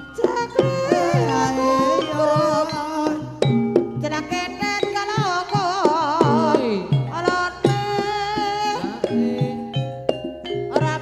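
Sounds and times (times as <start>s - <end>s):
person singing ornamented vocal line: 0.0s - 9.9s
drum strikes: 0.0s - 11.0s.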